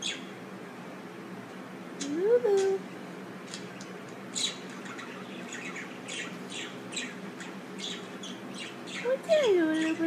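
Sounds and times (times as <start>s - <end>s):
cage birds chirping: 0.0s - 10.0s.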